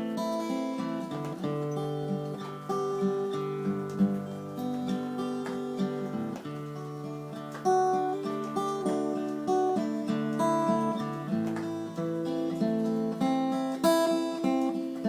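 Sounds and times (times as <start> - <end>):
acoustic guitar picking chords: 0.0 - 15.0.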